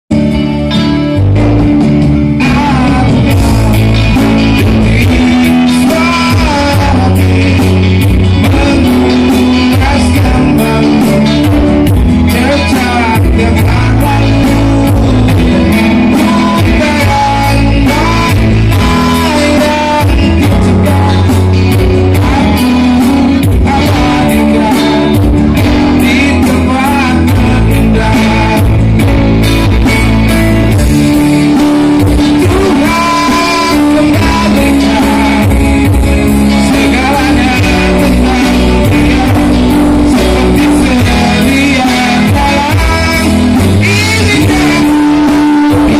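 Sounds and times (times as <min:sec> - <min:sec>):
instrumental backing with beat: 0:00.1 - 0:45.9
person singing: 0:00.1 - 0:45.9.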